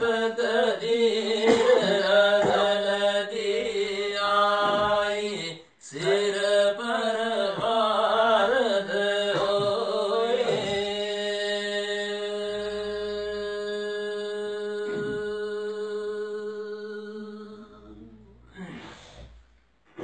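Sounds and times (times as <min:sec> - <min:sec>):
men singing devotional chant: 0:00.0 - 0:18.0.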